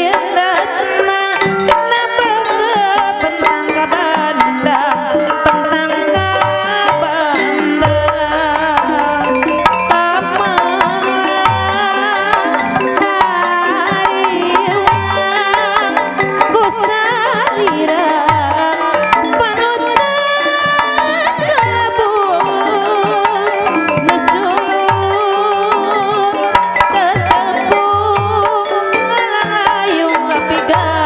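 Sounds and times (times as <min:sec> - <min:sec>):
hand drums beating: 0:00.0 - 0:31.0
keyboard melody: 0:00.0 - 0:31.0.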